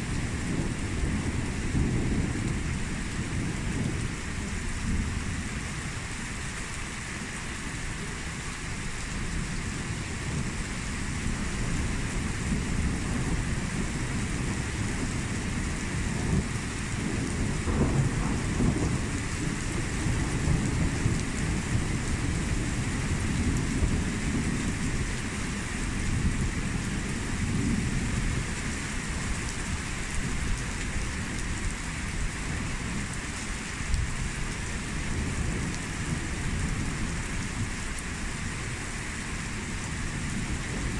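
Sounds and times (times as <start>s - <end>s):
low thunder rumbling: 0.0s - 5.9s, 9.4s - 38.8s
heavy rain splashing: 0.0s - 40.9s.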